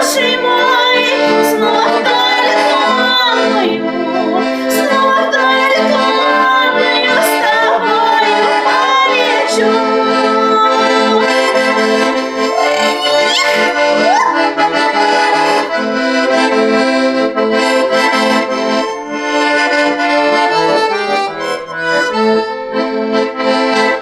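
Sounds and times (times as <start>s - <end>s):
accordion playing folk tune: 0.0s - 24.0s.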